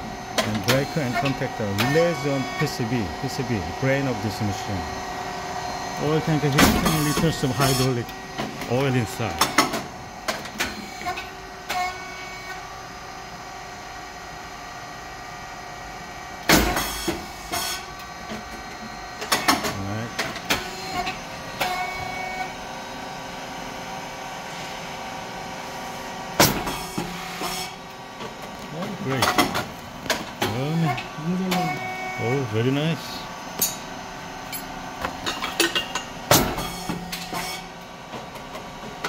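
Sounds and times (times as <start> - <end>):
machine motor hum: 0.0 - 35.2.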